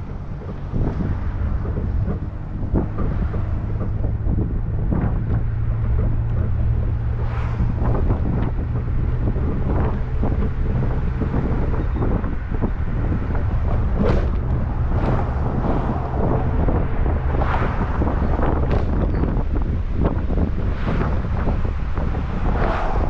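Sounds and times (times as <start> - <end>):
boat engine running: 0.0 - 23.0
wind buffeting microphone: 0.0 - 23.0.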